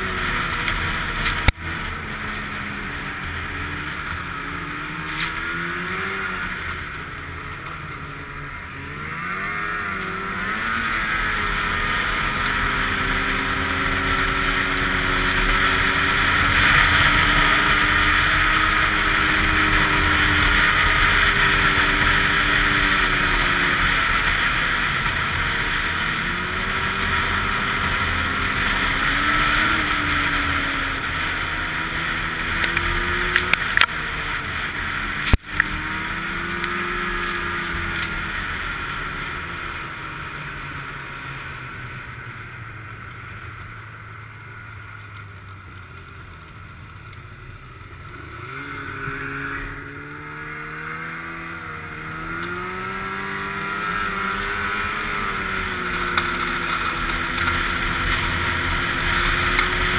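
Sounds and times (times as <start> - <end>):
snowmobile engine running: 0.0 - 59.9
steady rush of noise: 0.0 - 59.9.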